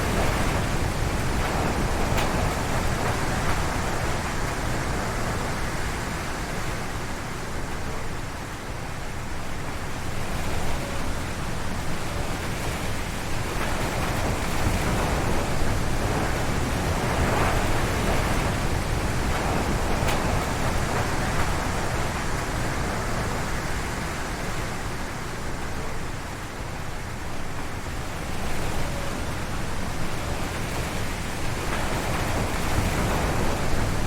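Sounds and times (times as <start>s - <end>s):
wind rumble on microphone: 0.0s - 34.0s
wind rushing in trees: 0.0s - 34.0s.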